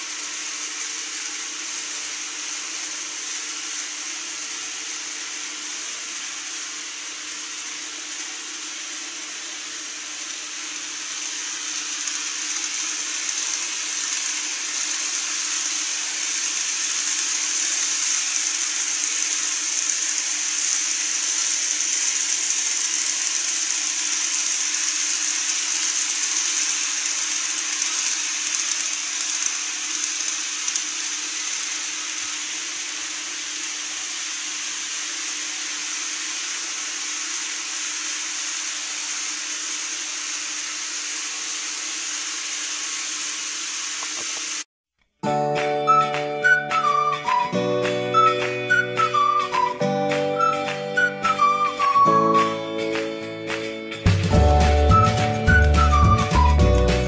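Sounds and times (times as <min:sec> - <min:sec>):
model train whirring on track: 0:00.0 - 0:44.7, 0:45.9 - 0:57.0.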